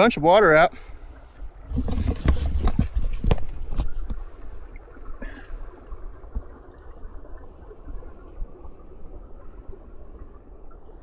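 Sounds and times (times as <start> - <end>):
spring water flowing: 0.7 - 11.0.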